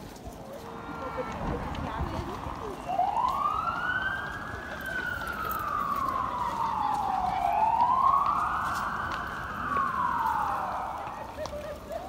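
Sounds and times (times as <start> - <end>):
emergency siren wailing: 0.4 - 12.0.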